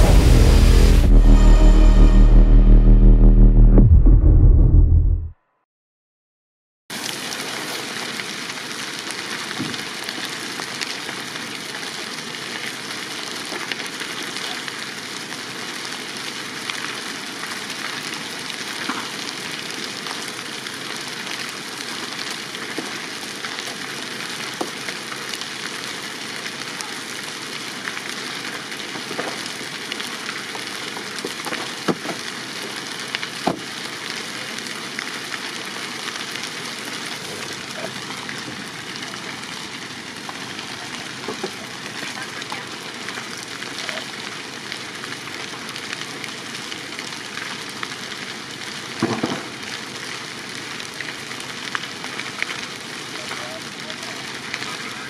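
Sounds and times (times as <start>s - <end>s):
fire crackling hiss: 6.9s - 55.0s
burning timber popping: 7.0s - 55.0s.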